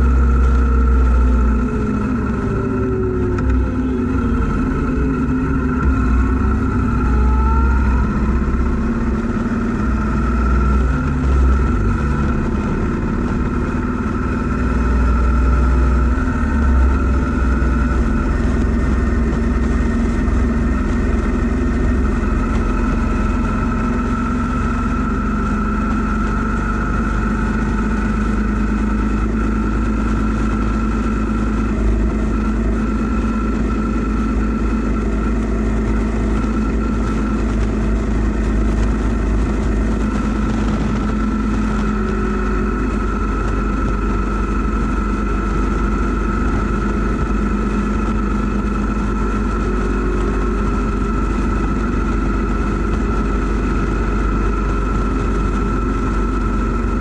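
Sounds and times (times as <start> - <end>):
motorcycle engine cruising: 0.0 - 57.0
wind rumbling on microphone: 0.0 - 57.0.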